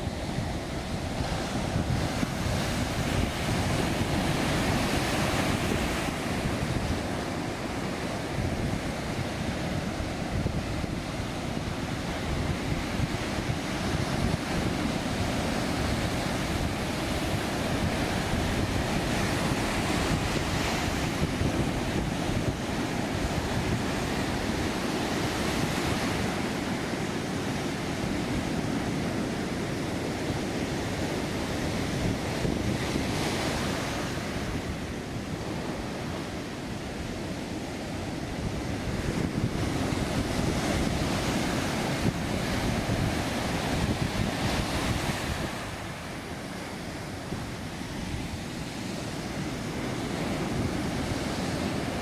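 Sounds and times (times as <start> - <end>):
surf breaking on beach: 0.0 - 52.0
wind buffeting microphone: 0.0 - 52.0.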